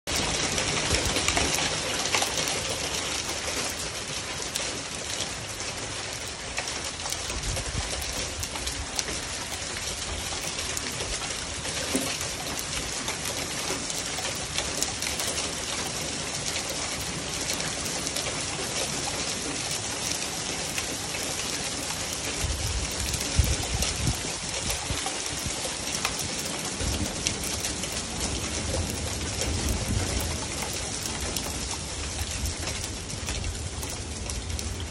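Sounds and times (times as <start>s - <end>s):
hail pattering: 0.1s - 34.9s.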